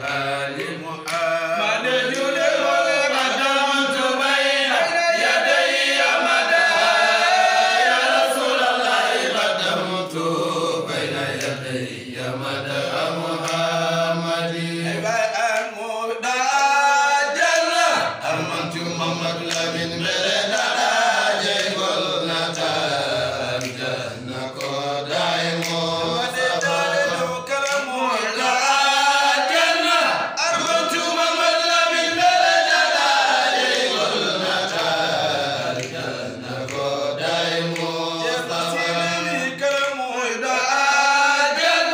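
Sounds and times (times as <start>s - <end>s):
men chanting devotional song: 0.0s - 41.9s.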